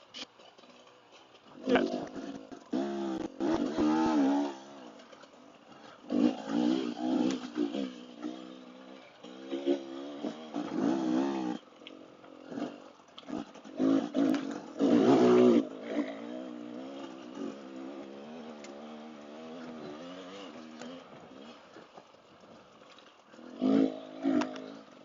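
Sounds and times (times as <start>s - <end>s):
dirt bike engine revving: 0.7s - 25.0s.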